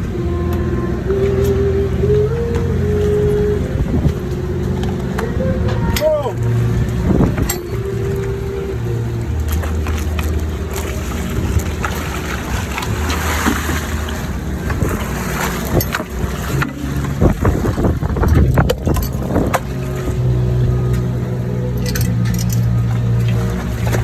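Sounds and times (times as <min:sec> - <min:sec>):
boat engine running: 0:00.0 - 0:24.0
knocks and thumps on boat: 0:00.0 - 0:24.0
wind on microphone: 0:00.0 - 0:24.0.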